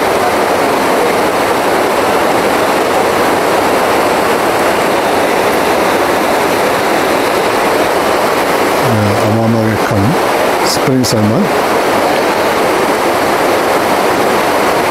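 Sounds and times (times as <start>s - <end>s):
river water rushing over rocks: 0.0s - 14.9s.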